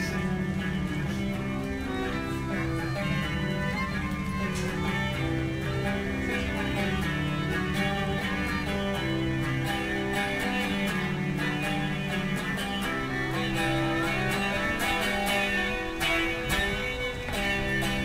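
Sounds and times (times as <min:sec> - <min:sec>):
strummed electric guitar: 0:00.0 - 0:18.0
violin bowed notes: 0:00.0 - 0:18.0.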